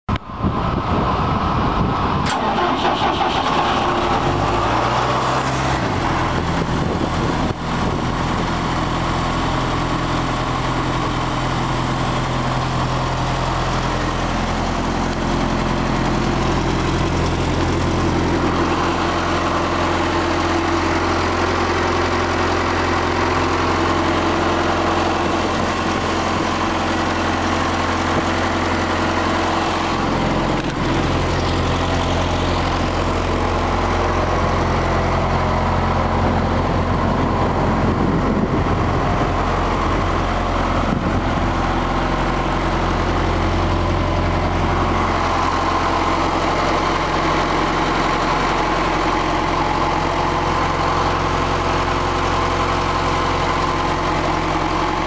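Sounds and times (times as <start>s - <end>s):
diesel engine starting and running: 0.1s - 55.0s.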